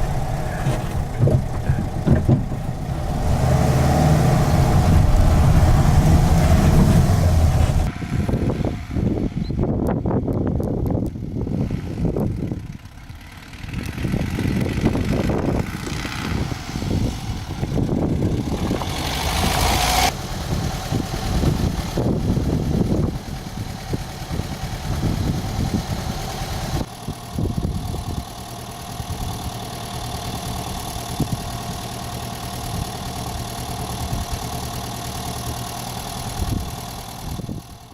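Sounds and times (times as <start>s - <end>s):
van engine running: 0.0s - 37.9s.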